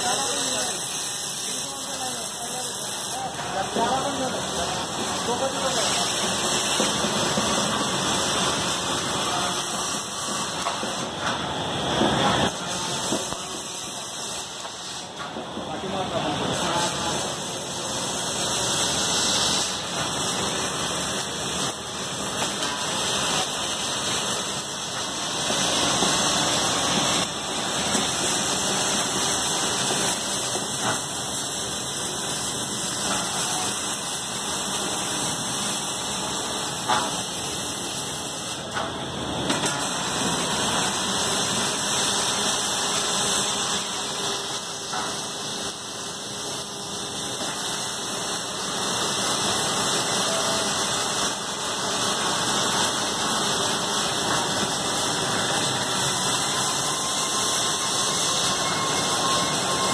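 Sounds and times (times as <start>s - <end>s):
welding machine noise: 0.0s - 59.9s.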